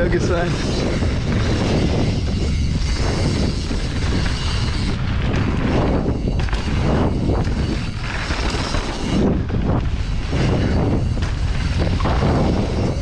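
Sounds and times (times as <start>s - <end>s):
bike tyres rolling on gravel: 0.0s - 13.0s
wind on camera microphone: 0.0s - 13.0s.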